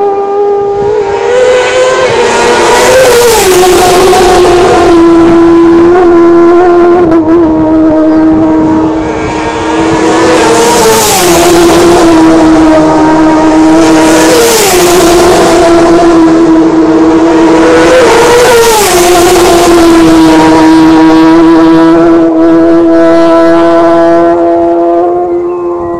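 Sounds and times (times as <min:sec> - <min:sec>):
racing motorcycles passing by: 0:00.0 - 0:25.9.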